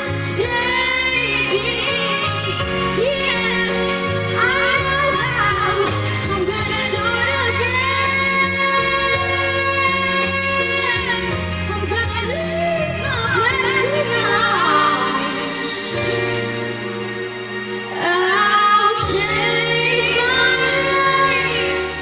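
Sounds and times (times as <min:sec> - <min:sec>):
woman singing: 0:00.0 - 0:15.9, 0:17.9 - 0:22.0
backing music: 0:00.0 - 0:22.0.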